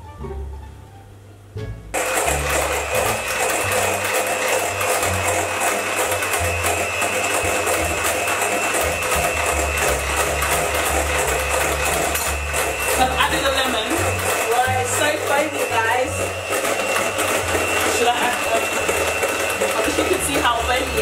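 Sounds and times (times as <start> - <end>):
background music: 0.0 - 19.1
electric hand mixer whining: 2.0 - 21.0.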